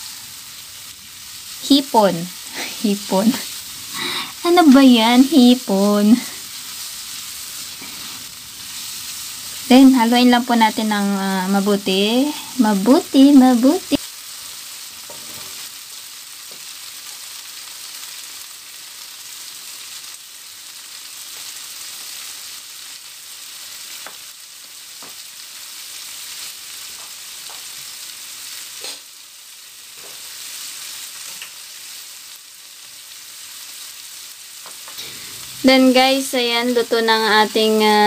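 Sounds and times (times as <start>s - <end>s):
prawns sizzling in oil: 0.0s - 38.0s.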